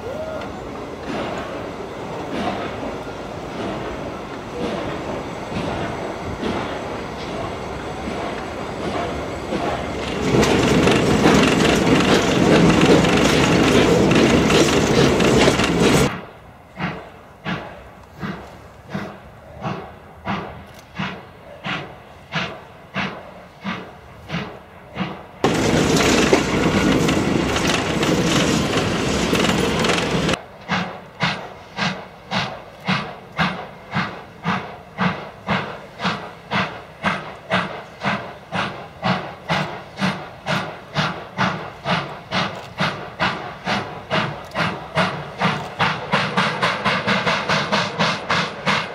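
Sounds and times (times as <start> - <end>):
rush of steam and running noise: 0.0 - 48.9
steam locomotive exhaust beats: 0.0 - 48.9.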